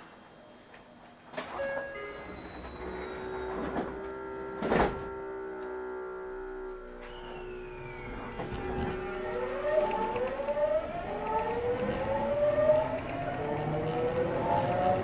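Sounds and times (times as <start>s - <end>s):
falling tone: 2.0s - 15.0s
train motors whining: 2.0s - 15.0s.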